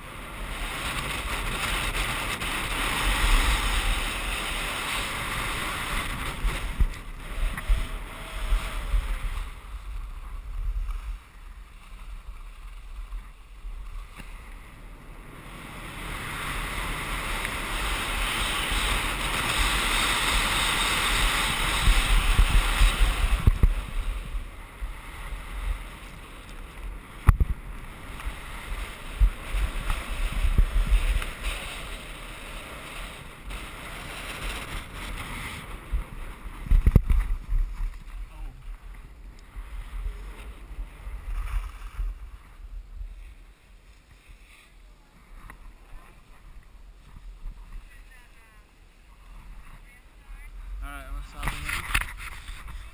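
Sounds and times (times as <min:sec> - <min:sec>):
wind buffeting microphone: 0:00.0 - 0:43.5
skis scraping over snow: 0:00.0 - 0:52.9.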